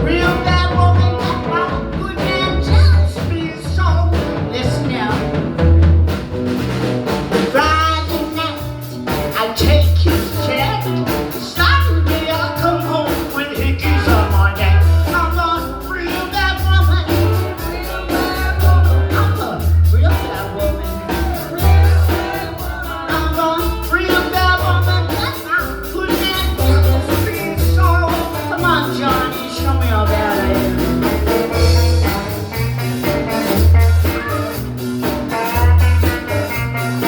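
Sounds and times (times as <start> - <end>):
blues band playing: 0.0 - 37.0.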